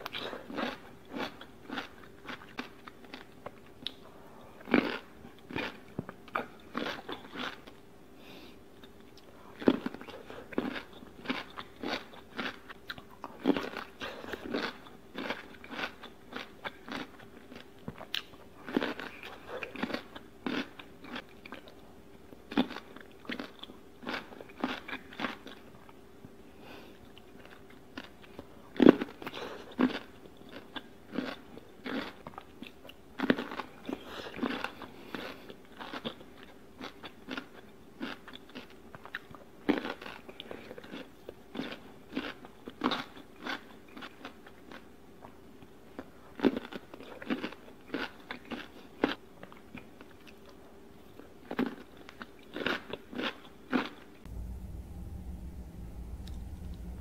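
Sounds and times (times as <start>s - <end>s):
crunching pickled cucumbers: 0.0s - 4.0s, 4.6s - 7.9s, 8.8s - 26.3s, 27.2s - 54.2s.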